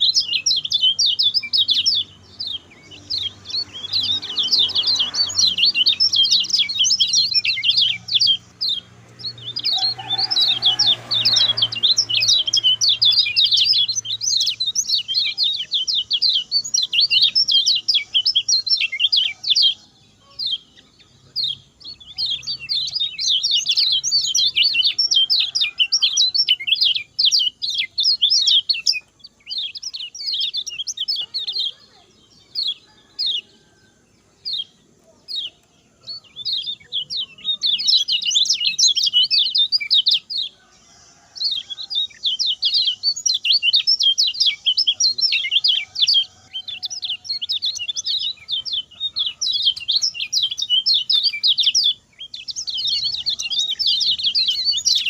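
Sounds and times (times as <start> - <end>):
songbird chattering song: 0.0 - 55.0.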